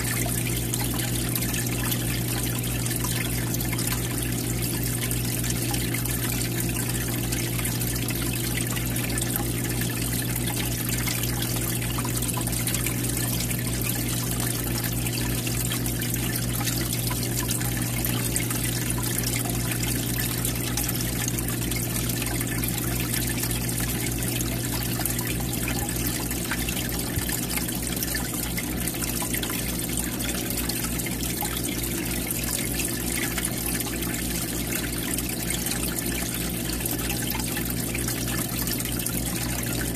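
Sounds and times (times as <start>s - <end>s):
constant low hum: 0.0s - 39.9s
water trickling and splashing: 0.0s - 39.9s.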